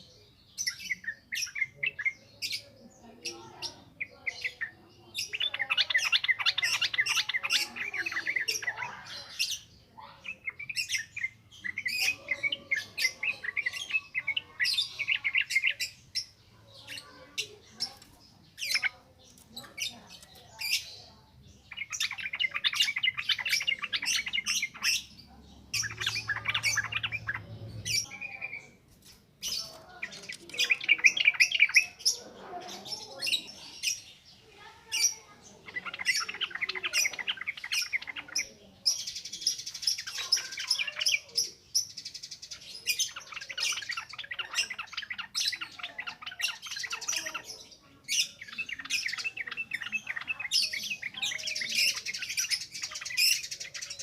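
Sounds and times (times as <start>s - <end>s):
bird singing chattering notes: 0.0s - 54.0s.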